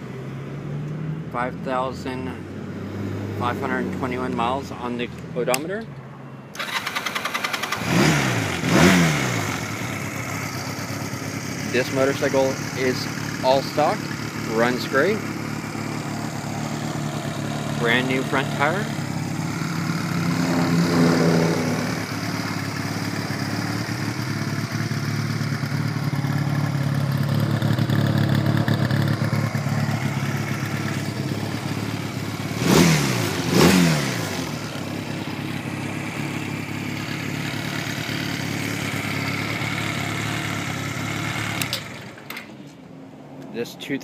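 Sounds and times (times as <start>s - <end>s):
motorcycle engine idling: 6.5s - 42.8s.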